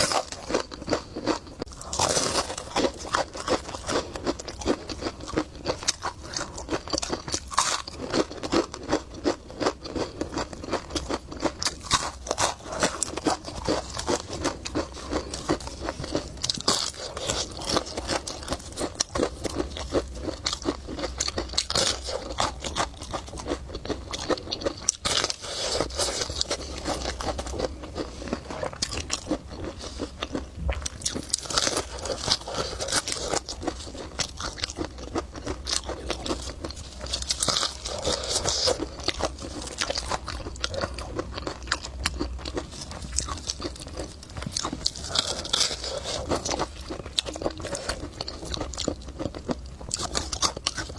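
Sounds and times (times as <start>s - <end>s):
chewing and biting: 0.0s - 50.9s.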